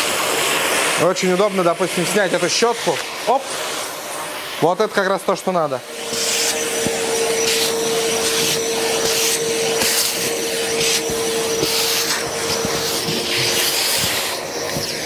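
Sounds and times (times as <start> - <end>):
nozzle suction hiss on fabric: 0.0 - 15.0
vacuum cleaner motor whine: 0.0 - 15.0.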